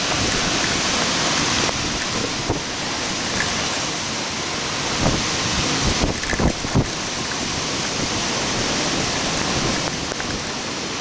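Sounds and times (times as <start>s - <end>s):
heavy wind-driven rain: 0.0s - 11.0s.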